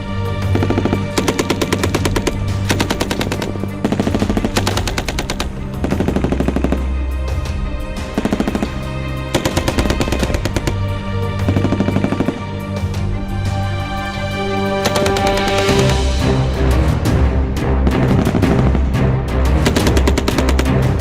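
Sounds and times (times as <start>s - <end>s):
music with low bass: 0.0s - 21.0s.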